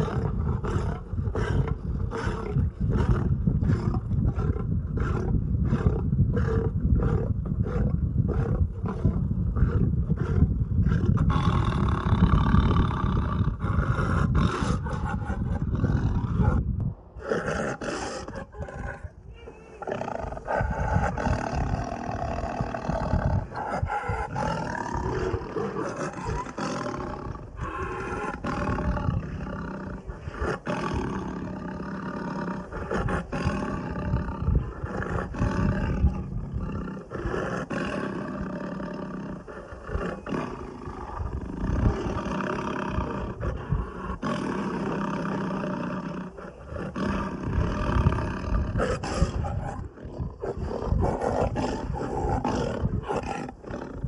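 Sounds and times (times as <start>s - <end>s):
lion roaring and growling: 0.0s - 19.2s, 19.8s - 54.0s.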